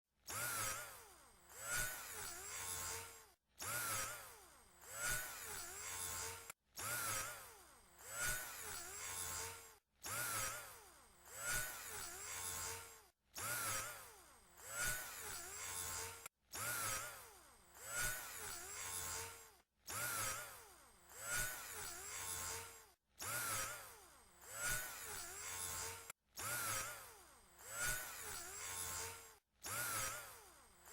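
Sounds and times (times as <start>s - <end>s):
electric drill motor running: 0.3s - 30.9s.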